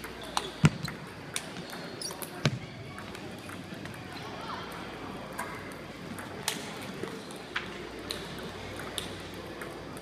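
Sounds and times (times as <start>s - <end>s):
table tennis balls clicking: 0.0s - 4.1s, 4.7s - 10.0s
low hum in large hall: 0.0s - 10.0s.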